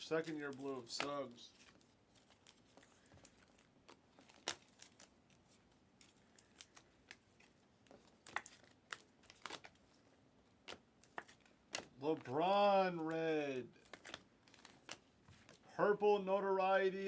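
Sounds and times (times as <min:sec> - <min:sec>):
cards and wrappers crinkling: 0:00.0 - 0:17.0.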